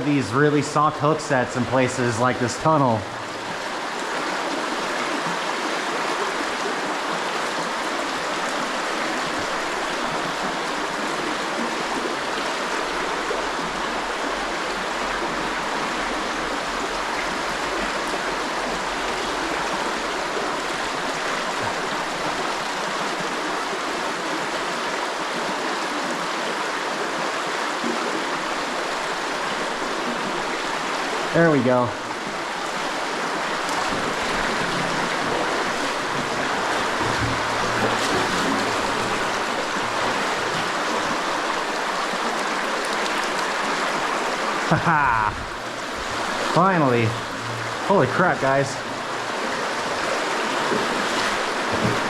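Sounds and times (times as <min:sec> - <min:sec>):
creek running over rocks: 0:00.0 - 0:52.0.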